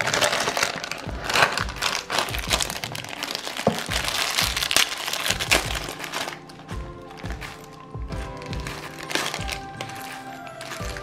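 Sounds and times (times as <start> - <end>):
background music with steady beat: 0.0 - 11.0
plastic bags crinkling: 0.0 - 11.0.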